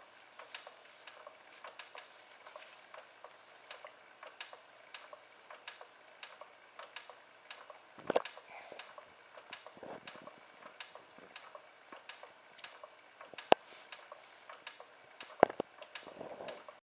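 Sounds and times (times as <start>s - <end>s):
baby swing ticking: 0.4s - 16.8s.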